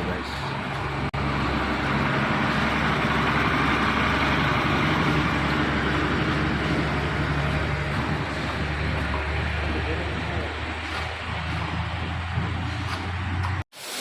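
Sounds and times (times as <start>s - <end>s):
heavy engine idling: 0.0s - 13.6s.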